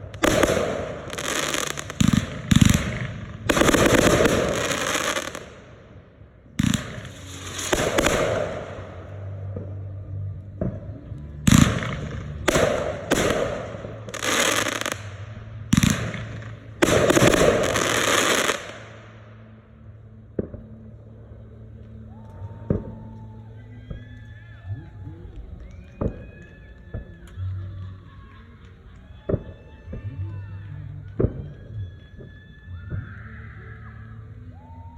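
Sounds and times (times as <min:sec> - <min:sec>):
fireworks bursting: 0:00.0 - 0:06.0, 0:06.6 - 0:19.5, 0:21.8 - 0:33.1
crackling hiss of fireworks: 0:00.0 - 0:34.9.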